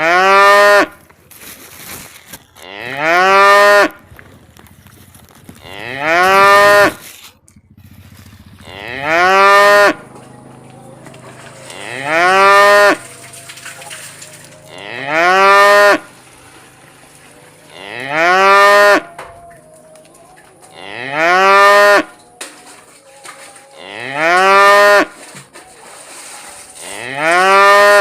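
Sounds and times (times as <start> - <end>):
cow mooing: 0.0 - 1.0, 2.6 - 4.1, 5.5 - 7.1, 7.8 - 25.5, 26.2 - 28.0.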